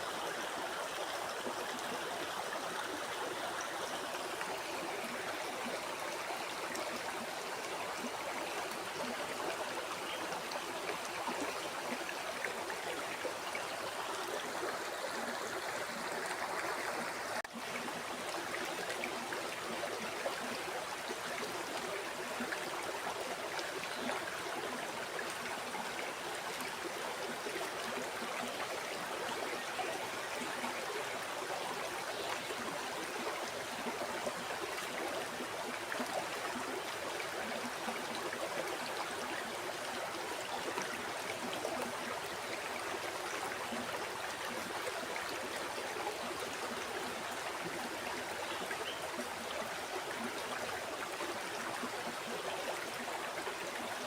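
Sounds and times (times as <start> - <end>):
river water flowing over rocks: 0.0 - 54.0.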